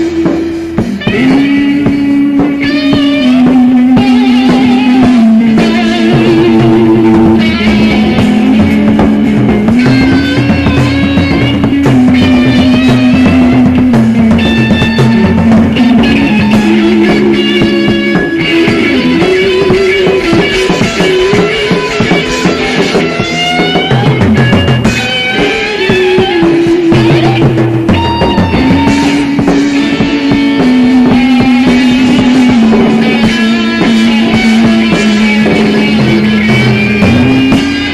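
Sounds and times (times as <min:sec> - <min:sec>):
drum kit: 0:00.0 - 0:37.9
guitar sustained notes: 0:00.0 - 0:37.9.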